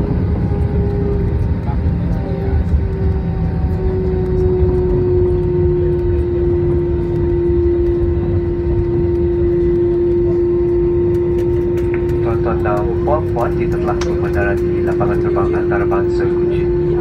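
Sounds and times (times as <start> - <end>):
jet engine tone: 0.0 - 17.0
rumble of wheels and airflow: 0.0 - 17.0.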